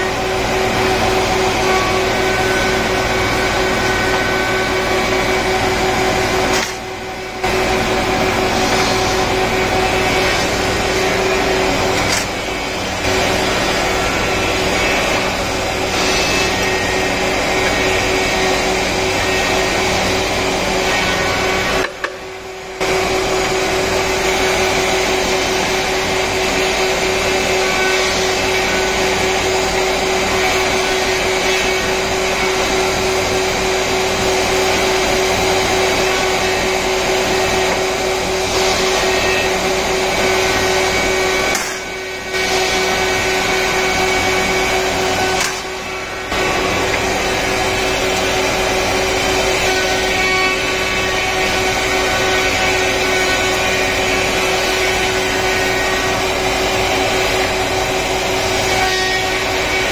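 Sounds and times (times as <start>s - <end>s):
wood planer running: 0.0s - 59.9s.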